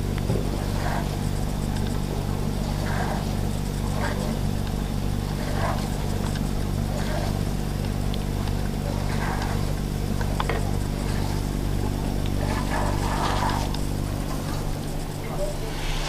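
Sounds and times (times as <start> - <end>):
engine idling: 0.0 - 16.0
faint voices: 0.0 - 16.0.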